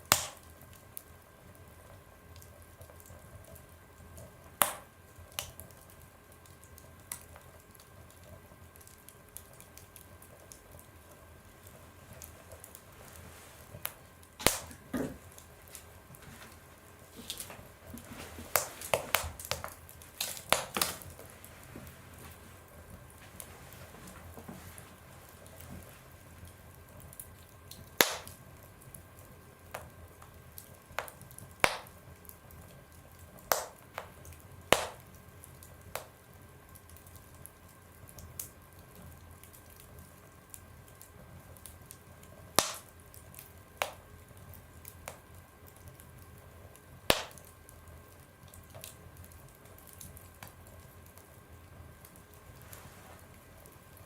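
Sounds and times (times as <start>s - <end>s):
faint steady hum: 0.0s - 54.0s
wood fire popping in a stove: 0.0s - 54.0s.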